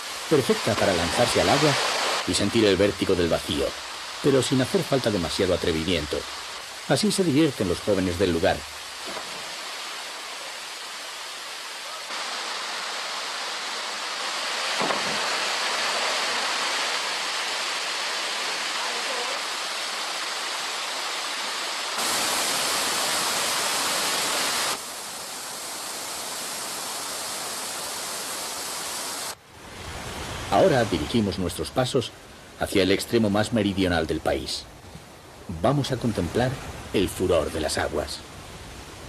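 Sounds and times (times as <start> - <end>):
waterfall rushing: 0.0 - 34.6.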